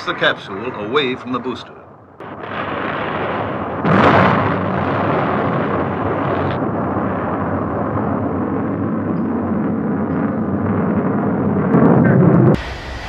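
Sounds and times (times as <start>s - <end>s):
rocket explosion blast: 2.2s - 13.0s
rumbling roar of fireball: 2.2s - 13.0s.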